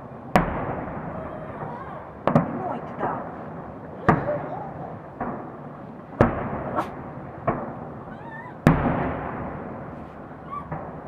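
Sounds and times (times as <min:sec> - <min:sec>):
big firework bangs rumbling: 0:00.0 - 0:11.0
firework shells bursting: 0:00.4 - 0:11.0.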